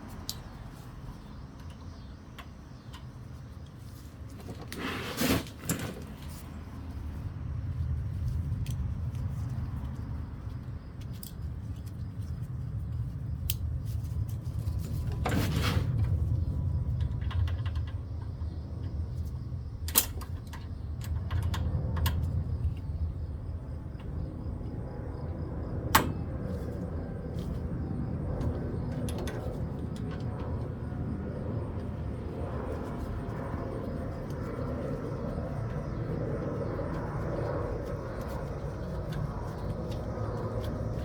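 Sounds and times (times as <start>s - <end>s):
steady low hum: 5.6s - 41.0s.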